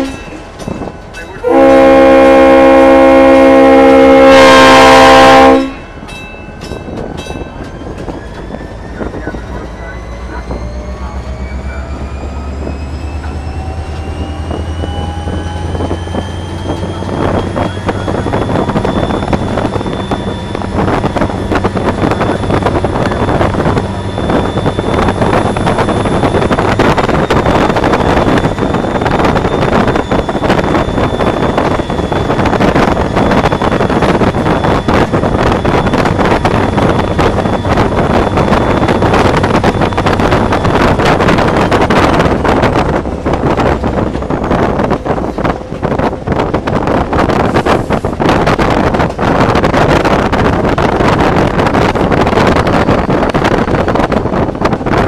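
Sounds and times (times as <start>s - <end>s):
diesel locomotive engine drone: 0.0s - 55.0s
rail noise: 0.0s - 55.0s
wind noise: 0.0s - 55.0s
engine whine: 7.0s - 55.0s.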